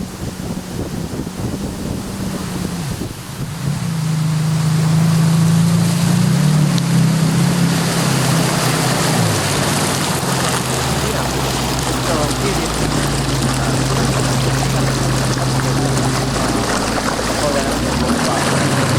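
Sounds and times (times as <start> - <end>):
jet ski engine running: 0.0 - 18.9
water rushing: 0.0 - 18.9
wind: 0.0 - 18.9.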